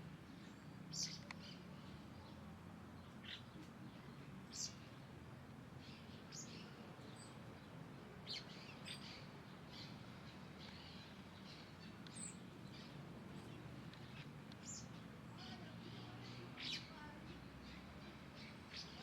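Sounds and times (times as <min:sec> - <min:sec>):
small birds chirping: 0:00.1 - 0:19.0.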